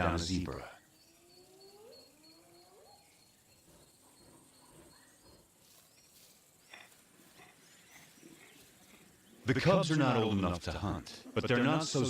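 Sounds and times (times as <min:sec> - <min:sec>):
faint outdoor ambience: 0:00.0 - 0:12.0
insect chirping: 0:00.0 - 0:12.0.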